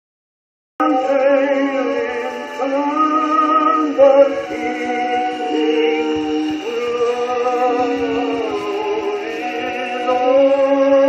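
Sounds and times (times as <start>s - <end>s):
old phonograph record music: 0.8s - 11.0s.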